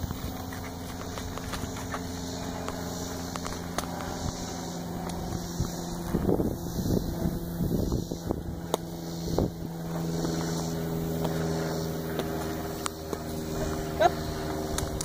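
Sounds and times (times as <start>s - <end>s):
small engine droning: 0.0s - 15.0s
wind buffeting microphone: 0.0s - 15.0s.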